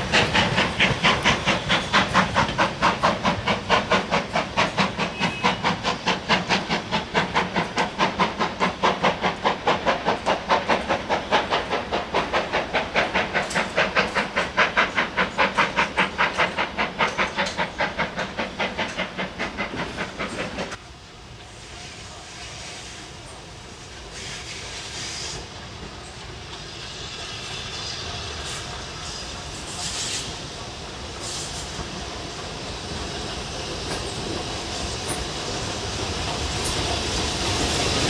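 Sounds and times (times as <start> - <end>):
steam locomotive chuffing: 0.0 - 20.8, 21.4 - 38.0.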